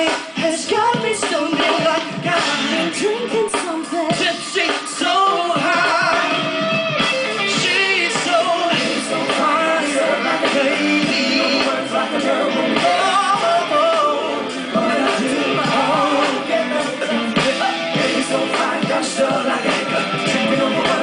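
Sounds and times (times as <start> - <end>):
band playing: 0.0 - 21.0
guitar: 0.0 - 21.0
person singing pop song: 0.0 - 21.0.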